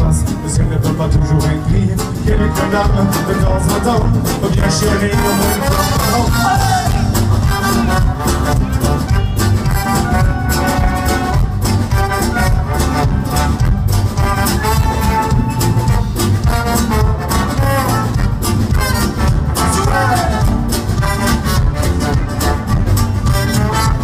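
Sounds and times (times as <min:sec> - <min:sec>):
acoustic guitar: 0:00.0 - 0:24.0
drums: 0:00.0 - 0:24.0
electric bass: 0:00.0 - 0:24.0
trumpets: 0:02.4 - 0:24.0.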